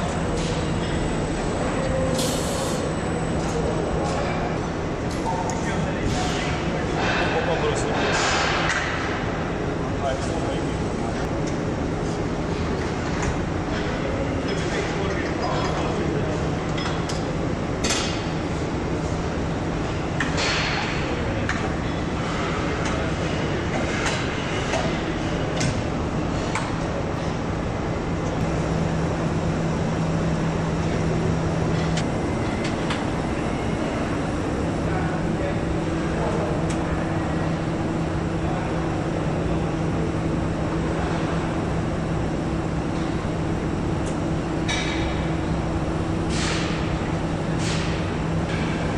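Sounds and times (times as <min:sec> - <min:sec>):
machinery hum: 0:00.0 - 0:48.9.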